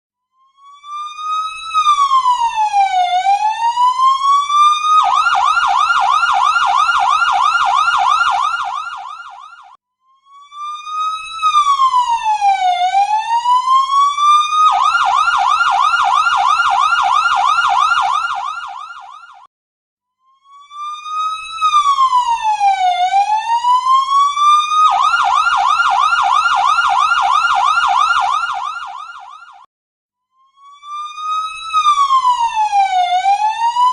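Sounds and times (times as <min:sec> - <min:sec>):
ambulance siren wail and yelp: 0:00.4 - 0:19.5, 0:20.5 - 0:29.7, 0:30.6 - 0:33.9.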